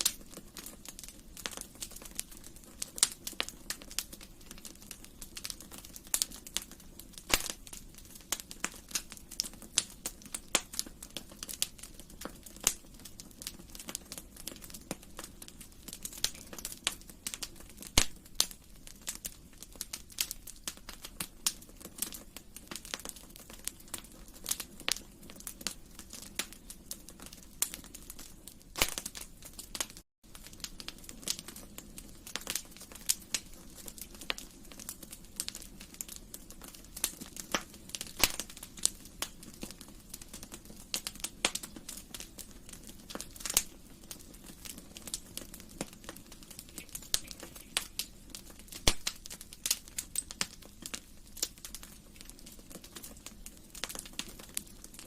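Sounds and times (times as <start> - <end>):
low rumble of flame: 0.0 - 55.0
wood fire crackling and popping: 0.0 - 55.0.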